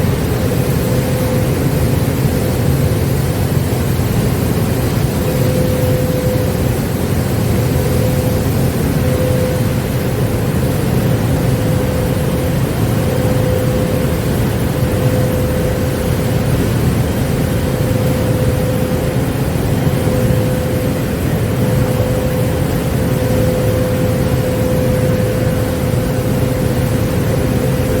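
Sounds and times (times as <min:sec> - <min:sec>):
industrial vacuum cleaner running: 0:00.0 - 0:28.0.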